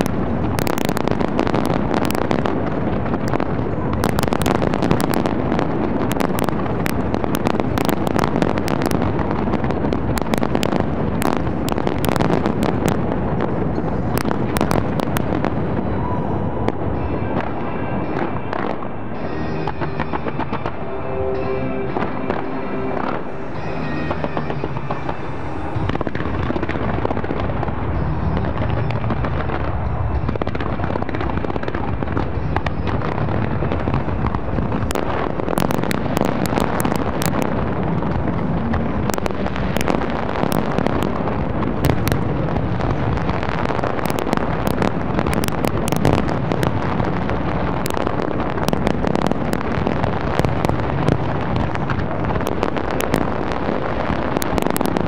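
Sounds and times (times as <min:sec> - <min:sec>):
fireworks explosions: 0:00.0 - 0:55.0
sharp crackling bursts: 0:00.0 - 0:55.0.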